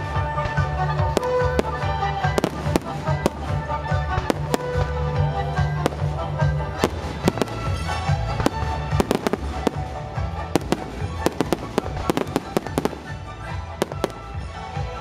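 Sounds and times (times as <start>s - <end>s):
fireworks bursting with sharp bangs: 0.0s - 15.0s
music playing: 0.0s - 15.0s.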